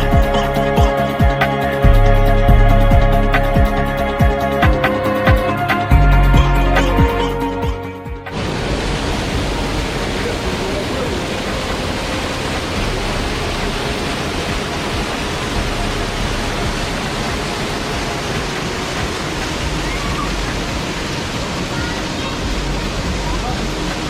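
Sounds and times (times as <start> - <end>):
waterfall rushing: 0.0 - 7.6, 8.2 - 24.0.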